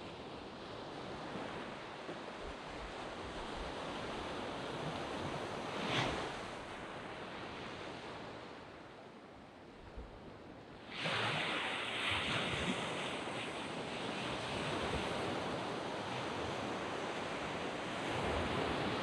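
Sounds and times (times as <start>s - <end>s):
waves breaking on sand beach: 0.0s - 9.0s, 10.3s - 19.0s.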